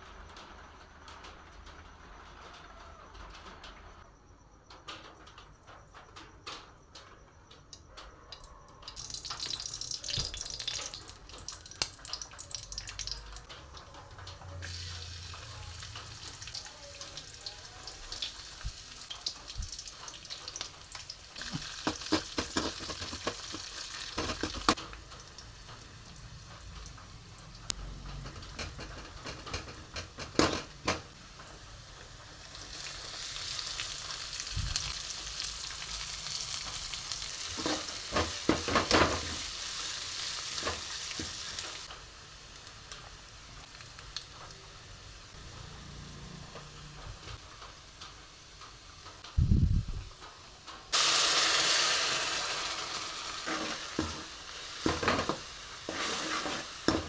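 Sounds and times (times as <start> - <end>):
hot oil sizzling: 7.7 - 57.0.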